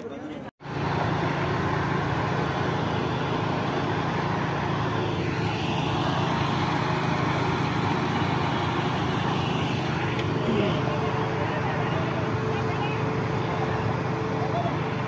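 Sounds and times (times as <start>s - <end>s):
engine drone: 0.6s - 15.0s.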